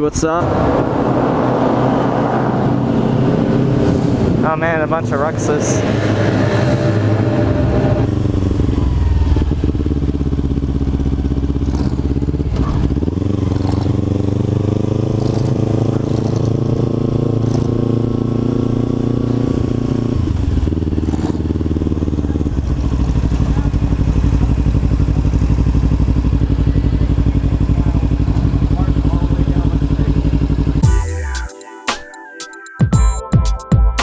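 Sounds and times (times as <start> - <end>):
motorcycle engine accelerating: 0.0 - 31.4.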